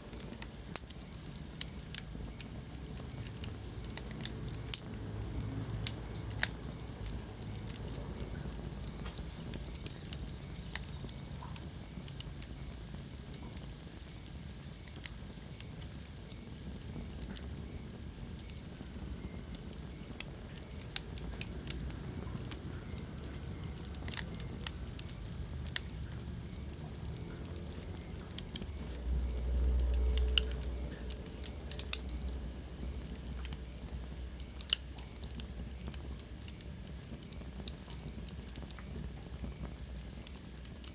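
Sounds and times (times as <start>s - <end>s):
low rumble of burning: 0.0s - 40.9s
wood fire pops and snaps: 0.0s - 40.9s.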